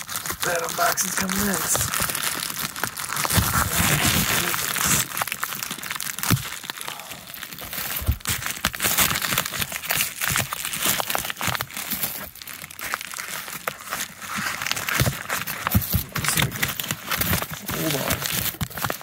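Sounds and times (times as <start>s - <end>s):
plastic wrapping crinkling: 0.0s - 19.0s.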